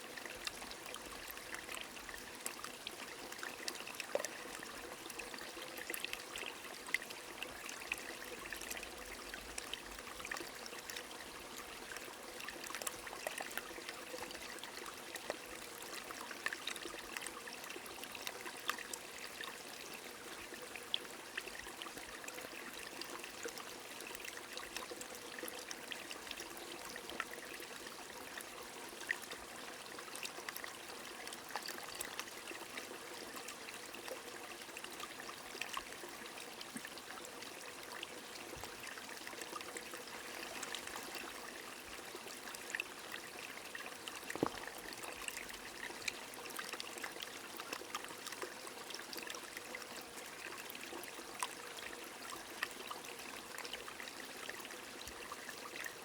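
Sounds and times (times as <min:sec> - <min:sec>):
trickling stream: 0:00.0 - 0:56.0.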